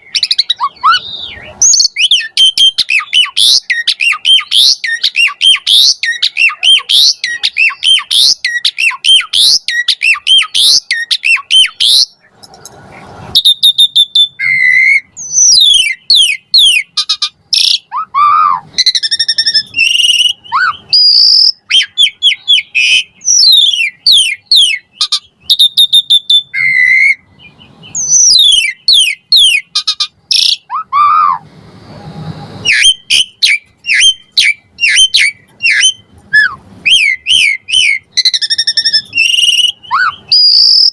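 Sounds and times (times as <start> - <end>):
starling singing: 0.0 - 31.4, 32.6 - 40.9.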